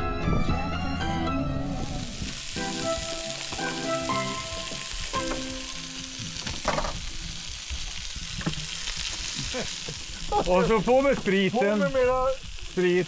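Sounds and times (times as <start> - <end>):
food sizzling in a pan: 1.8 - 13.0.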